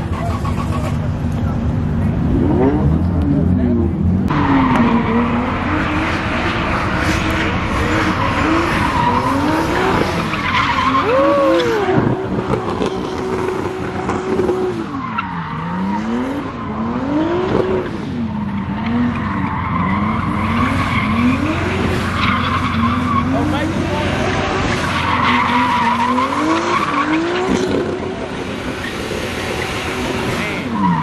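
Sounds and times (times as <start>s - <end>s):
car engine revving: 0.0s - 31.0s
tires screeching: 0.0s - 31.0s.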